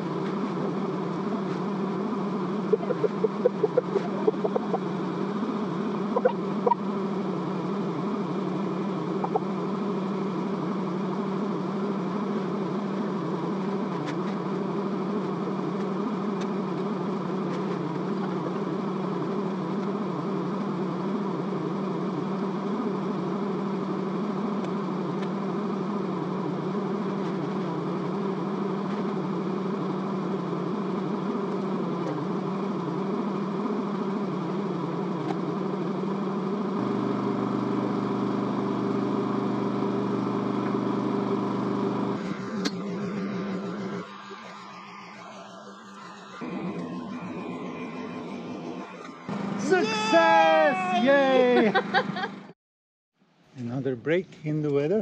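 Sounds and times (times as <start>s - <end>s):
engine running steadily: 0.0s - 52.6s.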